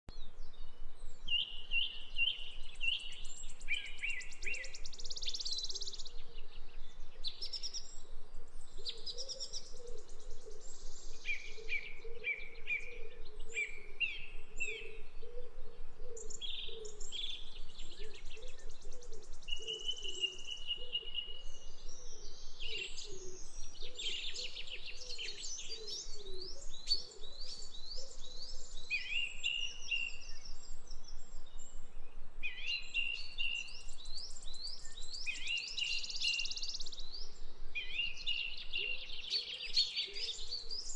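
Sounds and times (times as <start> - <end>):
songbirds singing: 0.1 - 40.9.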